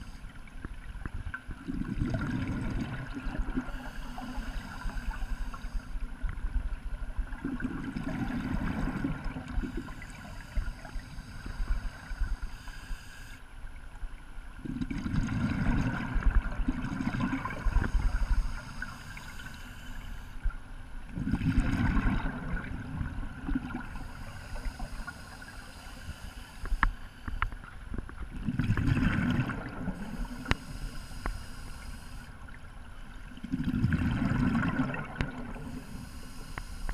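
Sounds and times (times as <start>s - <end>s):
water noise: 0.0s - 36.9s
underwater exhale bubbling: 1.5s - 6.4s, 7.3s - 13.4s, 14.6s - 20.5s, 21.1s - 27.7s, 28.3s - 32.6s, 33.3s - 36.9s.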